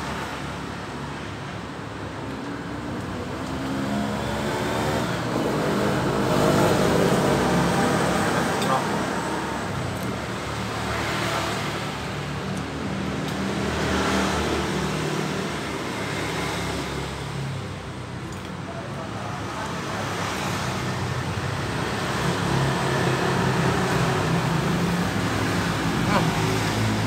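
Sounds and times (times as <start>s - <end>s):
road noise with engine hum: 0.0s - 27.0s
vehicles passing: 0.0s - 27.0s.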